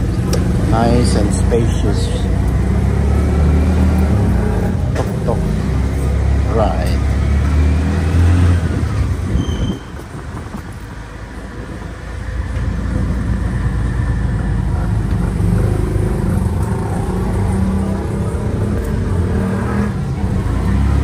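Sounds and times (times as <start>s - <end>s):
auto rickshaw engine running: 0.0s - 21.0s.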